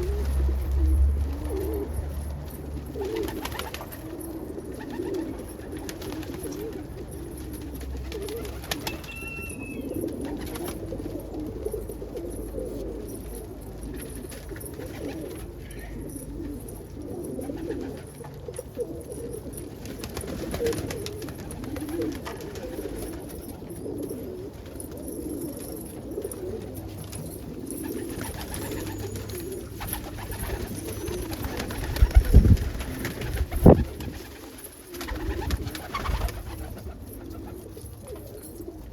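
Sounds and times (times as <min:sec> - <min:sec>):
pigeons cooing: 0:00.0 - 0:38.9.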